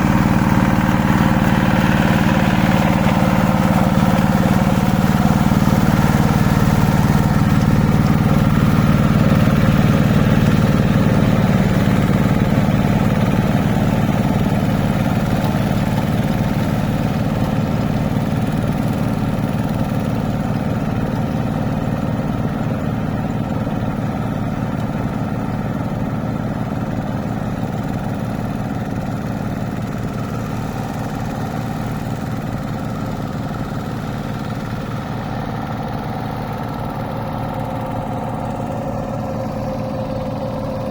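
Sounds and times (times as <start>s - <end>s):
hand tractor engine chugging: 0.0s - 40.9s.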